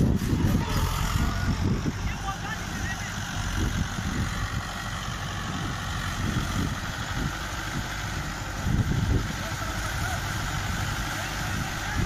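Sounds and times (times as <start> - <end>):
tractor diesel engines throbbing: 0.0 - 12.0.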